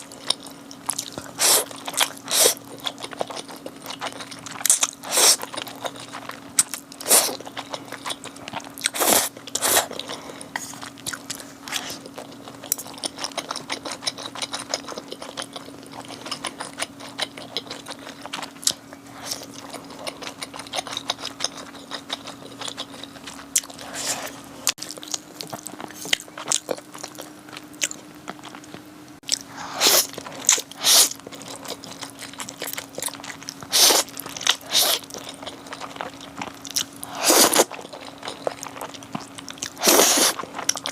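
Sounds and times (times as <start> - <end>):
crunchy chewing: 0.0 - 40.9
faint steady hum: 0.0 - 40.9.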